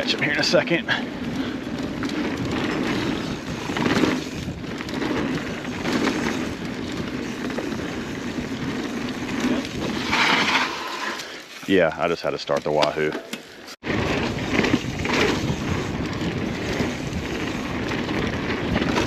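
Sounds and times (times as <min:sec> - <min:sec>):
bike tyres rumbling on dirt: 0:00.0 - 0:12.6, 0:13.8 - 0:19.0
bike rattling: 0:00.0 - 0:19.0.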